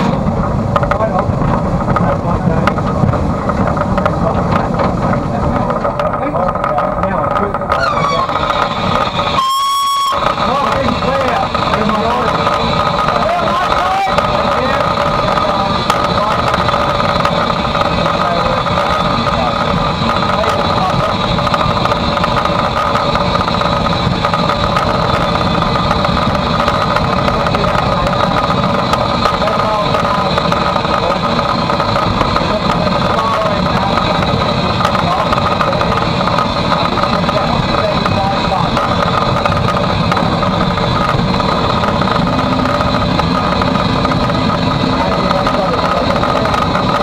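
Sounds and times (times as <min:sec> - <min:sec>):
faint steady whine: 0:00.0 - 0:47.0
steady tones: 0:00.0 - 0:47.0
steam locomotive cab din: 0:00.0 - 0:47.0.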